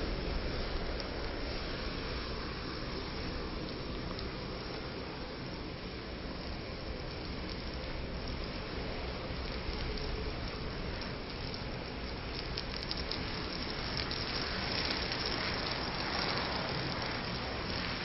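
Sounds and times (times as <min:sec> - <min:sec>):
fire hissing: 0:00.0 - 0:18.0.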